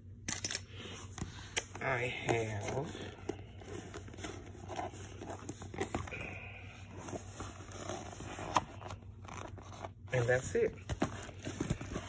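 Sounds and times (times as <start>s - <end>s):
low steady hum: 0.0s - 12.0s
rummaging in a handbag: 0.3s - 12.0s.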